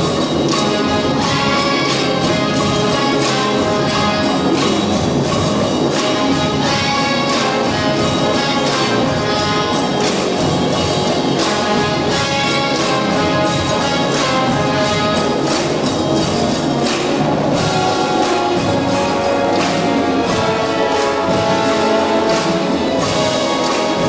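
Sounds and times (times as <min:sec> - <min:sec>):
hand drums beating: 0:00.0 - 0:24.0
orchestra playing: 0:00.0 - 0:24.0.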